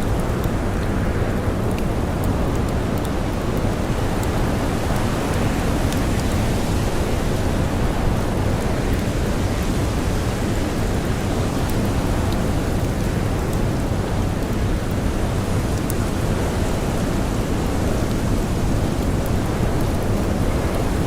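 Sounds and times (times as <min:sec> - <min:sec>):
faint campfire crackles: 0:00.0 - 0:21.0.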